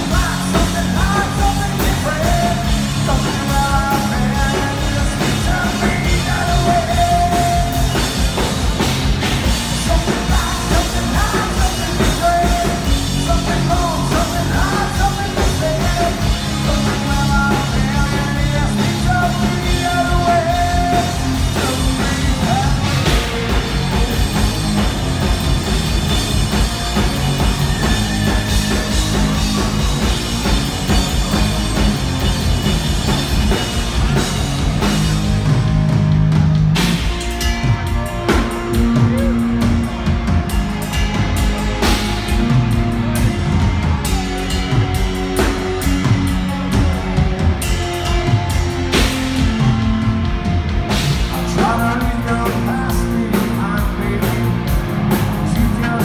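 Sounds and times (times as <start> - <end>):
live hard rock band: 0.0 - 56.0.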